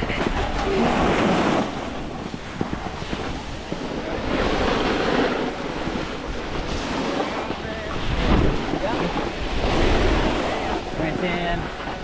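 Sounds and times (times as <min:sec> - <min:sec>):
wind on microphone: 0:00.0 - 0:12.0
snowboard scraping icy snow: 0:00.1 - 0:10.6.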